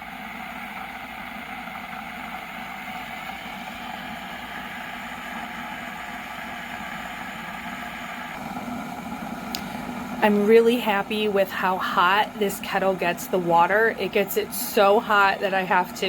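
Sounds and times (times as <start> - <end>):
electric kettle heating water: 0.0 - 16.0.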